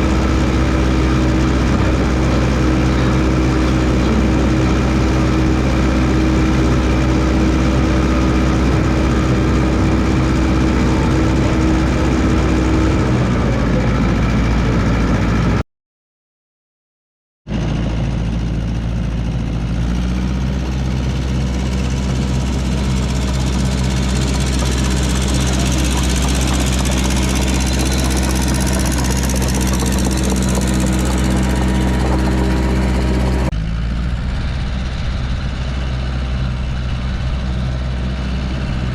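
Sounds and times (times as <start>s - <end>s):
dozer engine running: 0.0s - 15.6s, 17.5s - 38.9s.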